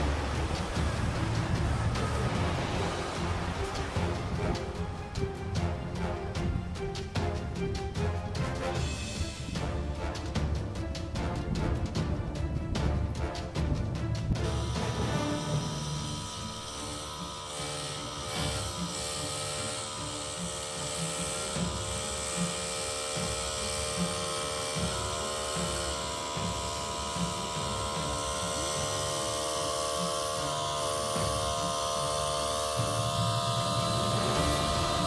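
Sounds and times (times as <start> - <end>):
snowplow mechanical whine: 0.0 - 35.0.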